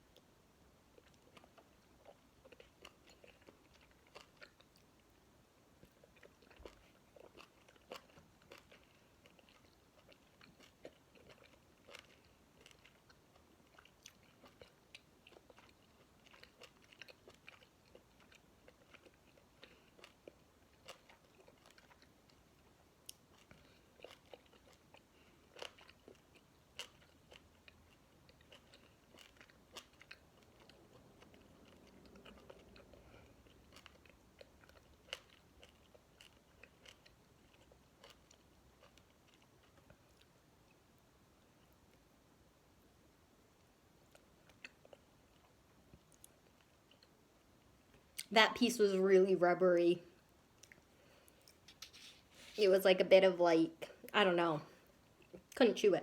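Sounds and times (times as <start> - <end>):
chewing and mouth noises: 0.9 - 5.2, 5.8 - 40.8, 44.1 - 48.4, 50.5 - 52.6.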